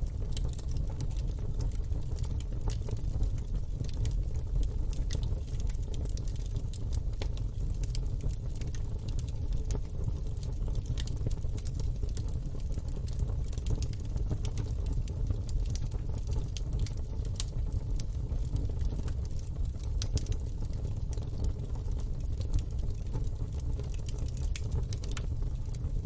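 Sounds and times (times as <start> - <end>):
fire crackling and popping: 0.0 - 26.0
low fire rumble: 0.0 - 26.0.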